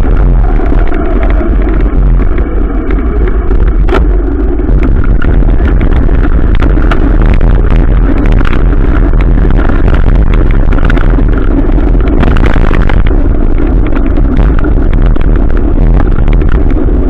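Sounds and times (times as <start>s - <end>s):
crackling hits: 0.0s - 17.0s
motorcycle engine running: 0.0s - 17.0s
wind rumble on microphone: 0.0s - 17.0s.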